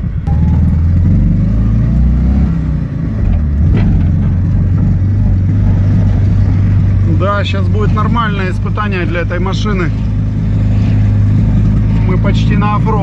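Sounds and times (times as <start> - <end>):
car engine running from inside: 0.0 - 13.0.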